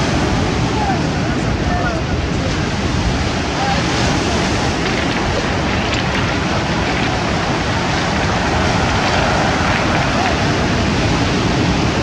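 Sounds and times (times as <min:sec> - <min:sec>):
surf breaking on cobble beach: 0:00.0 - 0:12.0
wind buffeting microphone: 0:00.0 - 0:12.0.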